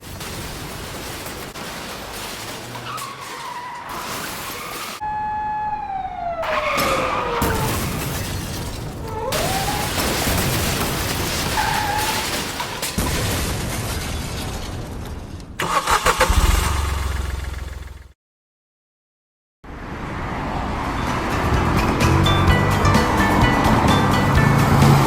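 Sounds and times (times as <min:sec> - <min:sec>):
engine and road noise: 0:00.0 - 0:13.0, 0:15.4 - 0:18.2, 0:19.6 - 0:25.0.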